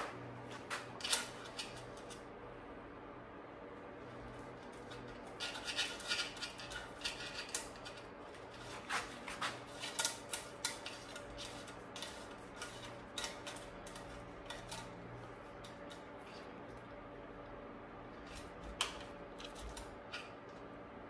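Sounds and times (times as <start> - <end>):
bicycle cable clicking and scraping: 0.5 - 2.3, 4.1 - 20.7.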